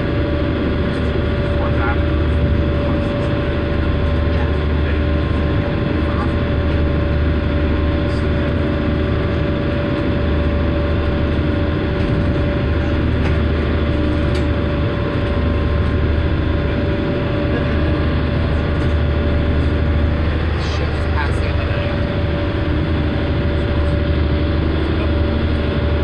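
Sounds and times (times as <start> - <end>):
ferry engine rumble with whine: 0.0 - 26.0.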